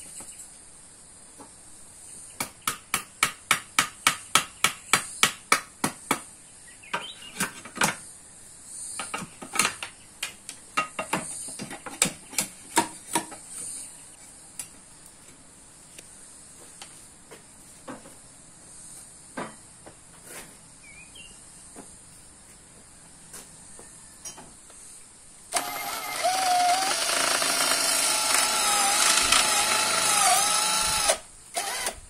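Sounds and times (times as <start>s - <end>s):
high-pitched hiss: 0.0s - 11.8s, 12.8s - 32.0s.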